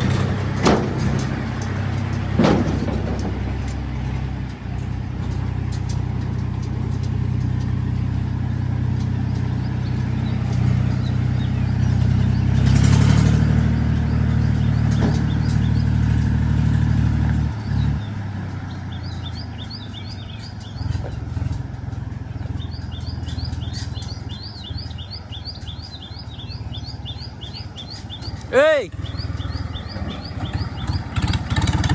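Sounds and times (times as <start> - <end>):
faint birds chirping: 0.0 - 31.9
tractor diesel engine running: 0.0 - 31.9.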